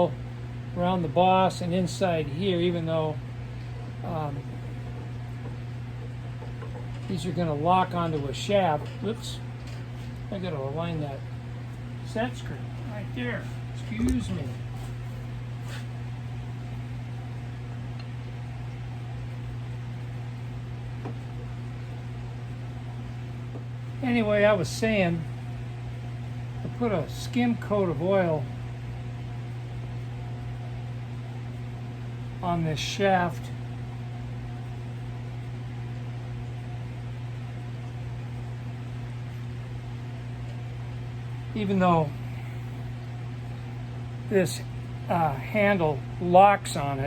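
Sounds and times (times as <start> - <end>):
cooler fan hum and whoosh: 0.0 - 47.0.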